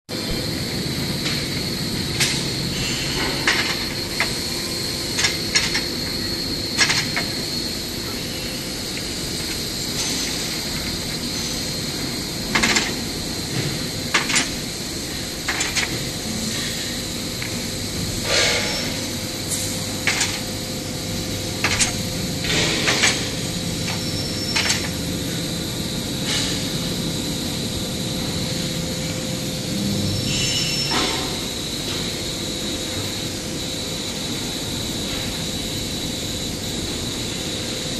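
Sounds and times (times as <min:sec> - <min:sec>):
high whine: 0:00.1 - 0:37.9
machinery hum: 0:00.1 - 0:37.9.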